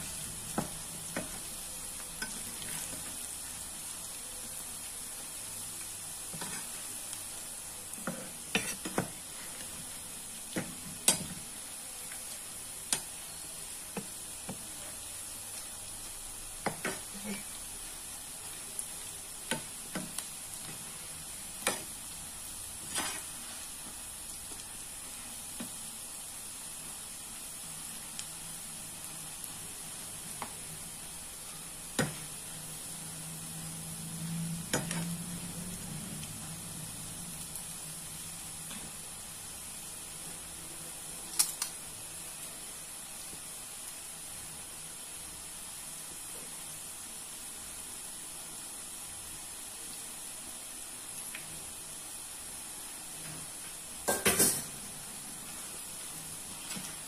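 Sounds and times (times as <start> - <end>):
fritters sizzling in oil: 0.0 - 57.0.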